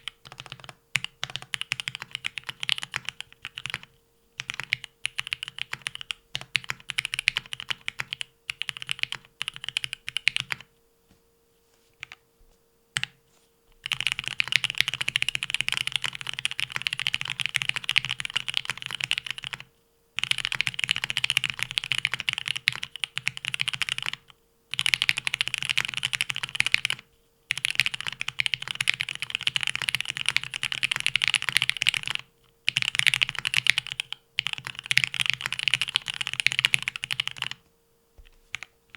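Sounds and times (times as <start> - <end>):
mechanical keyboard typing: 0.0 - 10.7, 13.8 - 37.6.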